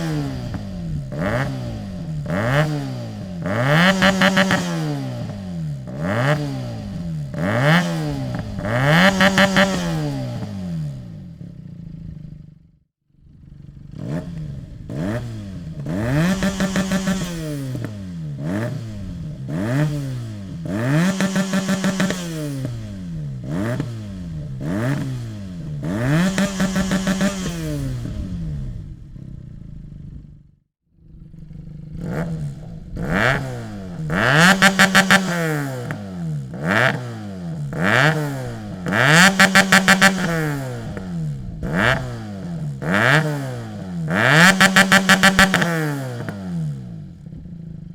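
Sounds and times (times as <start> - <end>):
rev limiter stuttering: 0.0 - 11.2, 13.2 - 30.4, 31.0 - 47.9
motorcycle engine revving: 0.0 - 47.9.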